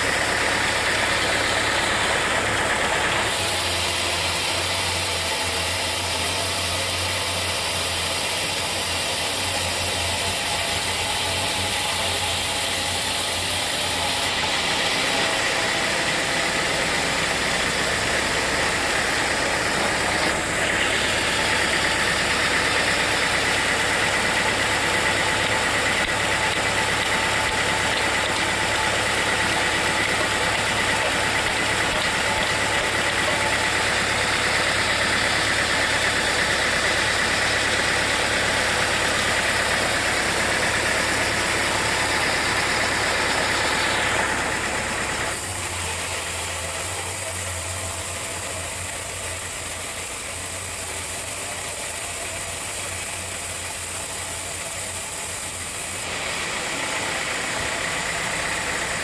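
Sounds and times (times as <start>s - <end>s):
sawmill machinery drone: 0.0s - 59.0s.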